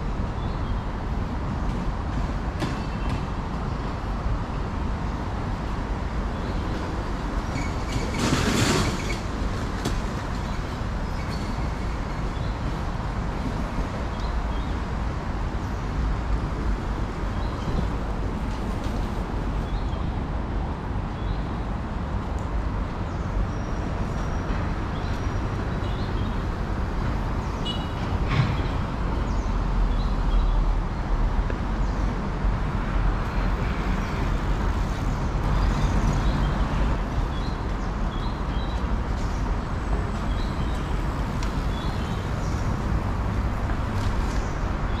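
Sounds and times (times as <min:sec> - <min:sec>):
rumble of passing vehicles: 0:00.0 - 0:45.0.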